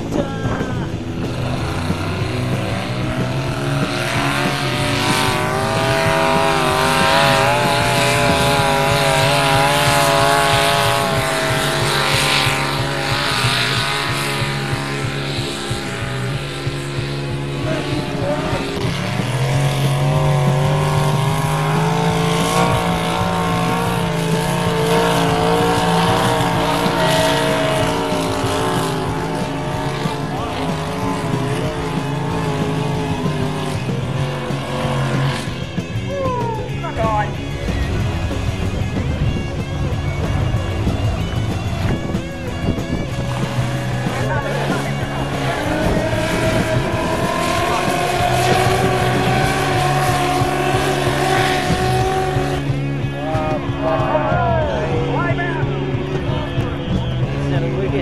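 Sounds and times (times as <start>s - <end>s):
engines at full throttle: 0.0s - 58.0s.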